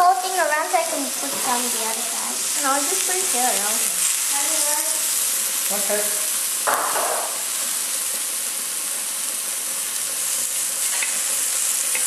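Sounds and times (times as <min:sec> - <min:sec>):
meat sizzling on grill plate: 0:00.0 - 0:12.0.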